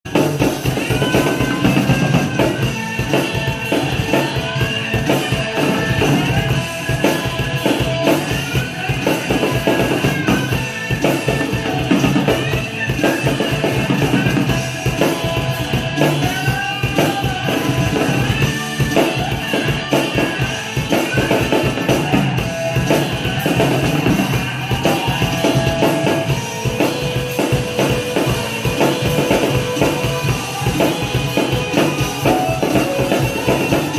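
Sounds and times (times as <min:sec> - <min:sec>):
drum kit playing: 0:00.0 - 0:33.9
recorded rock song: 0:00.0 - 0:33.9.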